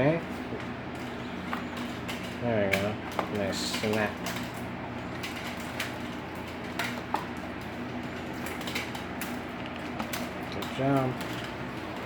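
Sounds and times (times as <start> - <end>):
box fan whirring: 0.0 - 12.0
faint motor hum: 0.0 - 12.0.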